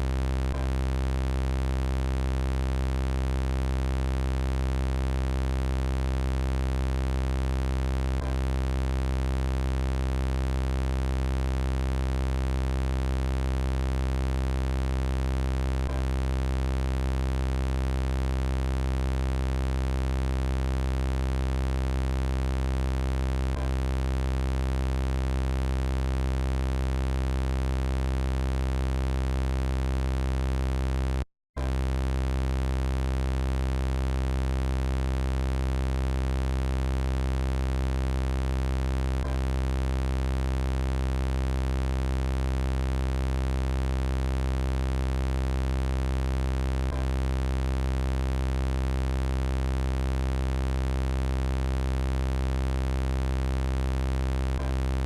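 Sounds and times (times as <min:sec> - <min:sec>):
synthesized electronic buzz: 0:00.0 - 0:55.0.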